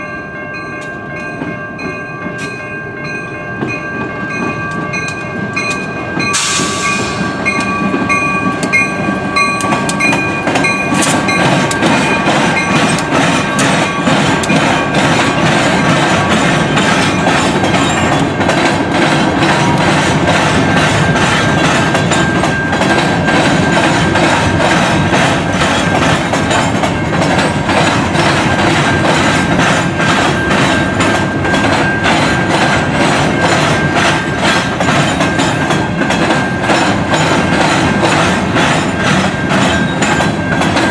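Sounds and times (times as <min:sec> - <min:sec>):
train wheels rumbling: 0:00.0 - 0:40.9
wheels clicking over rail joints: 0:04.5 - 0:40.9.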